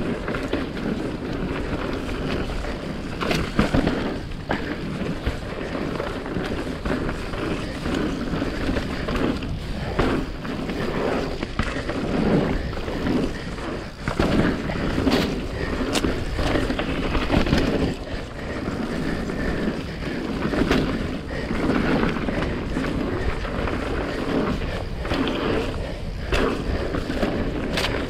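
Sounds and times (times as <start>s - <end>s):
bike clicking and rattling: 0.0s - 28.0s
bike tyres rushing over dirt: 0.0s - 28.0s.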